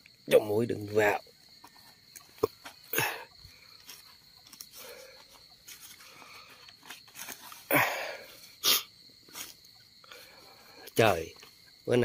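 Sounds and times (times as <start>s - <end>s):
cricket trill: 0.0s - 12.0s
mosquito net rustling: 0.5s - 12.0s.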